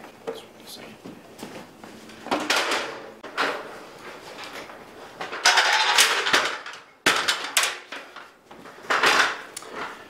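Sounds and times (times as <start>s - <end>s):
wooden ladder clatter and scrape: 1.4s - 10.0s.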